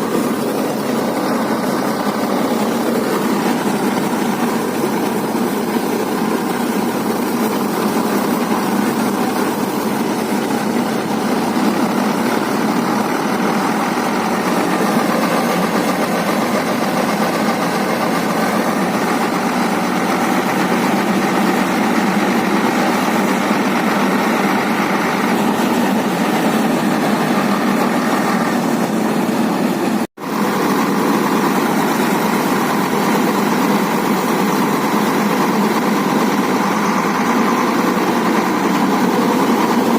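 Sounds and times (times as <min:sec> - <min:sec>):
tractor and harvester running: 0:00.0 - 0:39.9.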